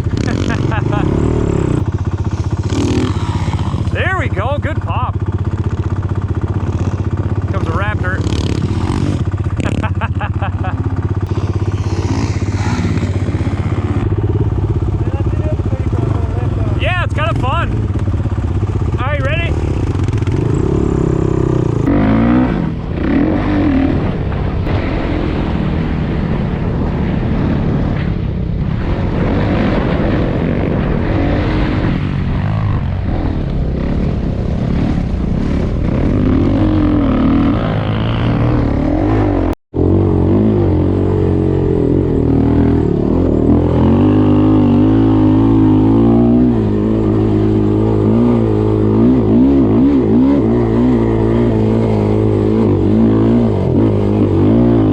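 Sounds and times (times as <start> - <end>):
off-road vehicle engine revving: 0.0 - 25.5, 29.0 - 54.9.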